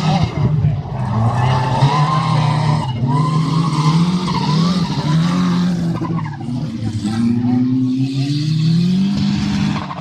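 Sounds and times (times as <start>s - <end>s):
racing engines at high revs: 0.0s - 10.0s.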